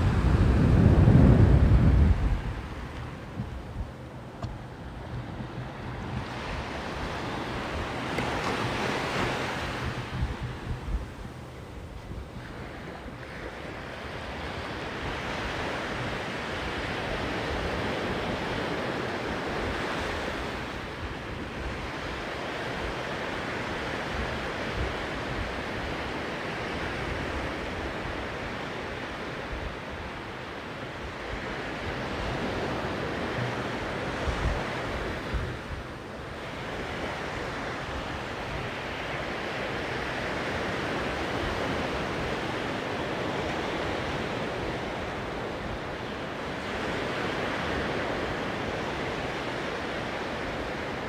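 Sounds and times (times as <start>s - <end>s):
ocean surf on sandy beach: 0.0s - 51.0s
wind buffeting microphone: 0.0s - 51.0s.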